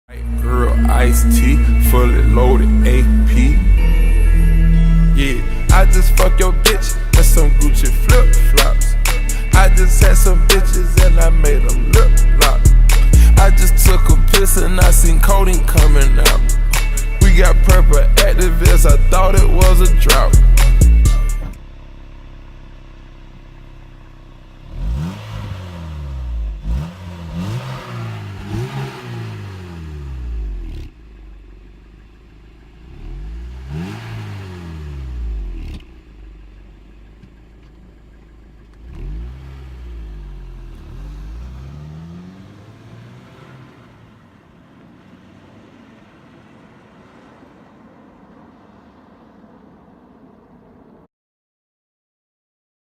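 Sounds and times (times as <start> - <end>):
car engine revving: 0.0 - 51.1.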